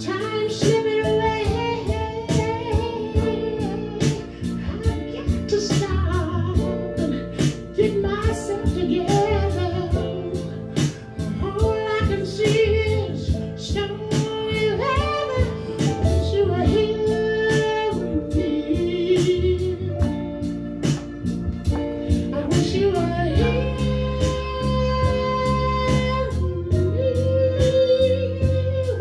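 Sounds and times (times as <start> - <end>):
man singing into microphone: 0.0 - 10.5, 11.3 - 19.9, 22.3 - 29.0
instrumental backing with beat: 0.0 - 29.0.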